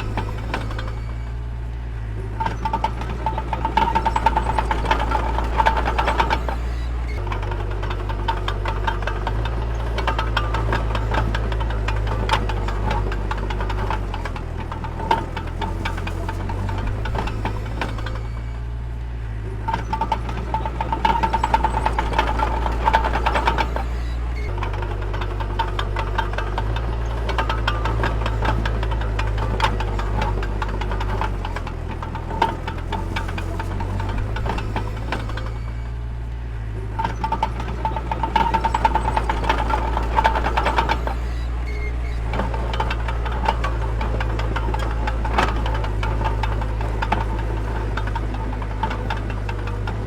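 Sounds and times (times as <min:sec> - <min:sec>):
rapid rattling clatter: 0:00.0 - 0:01.5, 0:02.1 - 0:18.8, 0:19.4 - 0:50.0
heavy machinery diesel engine: 0:00.0 - 0:50.0.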